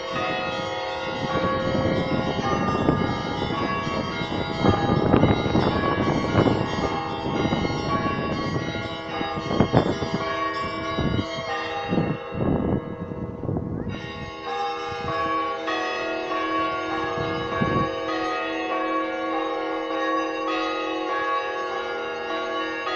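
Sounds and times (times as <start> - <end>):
church bells ringing a peal: 0.0 - 22.9.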